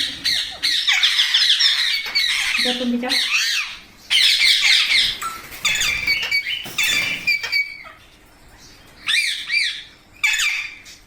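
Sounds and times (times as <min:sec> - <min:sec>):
parakeets chirping and squeaking: 0:00.0 - 0:11.0.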